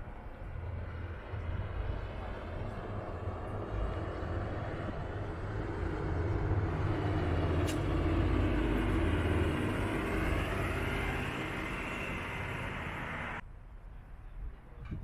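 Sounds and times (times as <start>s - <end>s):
passing vehicle rumble: 0.0s - 13.4s.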